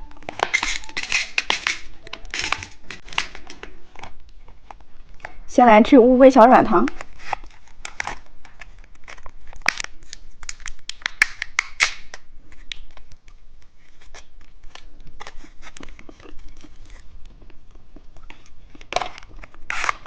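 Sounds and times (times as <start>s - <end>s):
plastic candy wrapper crinkling: 0.0s - 5.4s, 6.9s - 20.0s.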